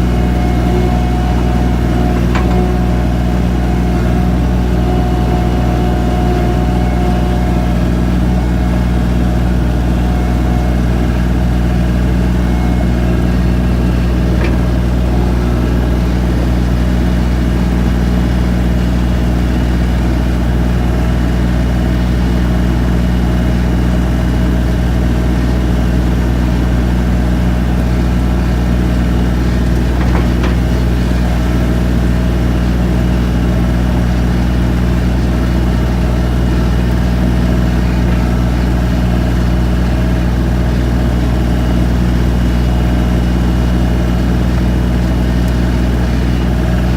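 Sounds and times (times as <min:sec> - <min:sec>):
loader engine running: 0:00.0 - 0:46.9.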